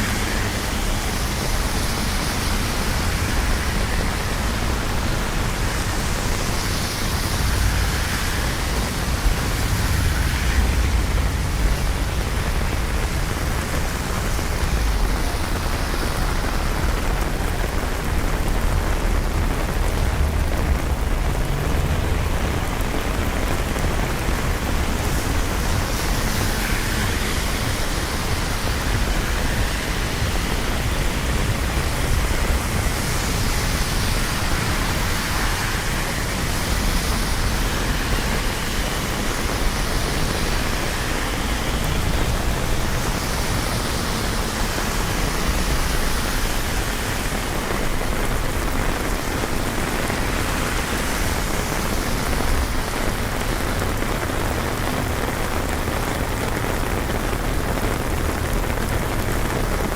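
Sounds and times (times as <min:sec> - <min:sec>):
low rumble of traffic: 0:00.0 - 0:59.9
steady rain falling: 0:00.0 - 0:59.9.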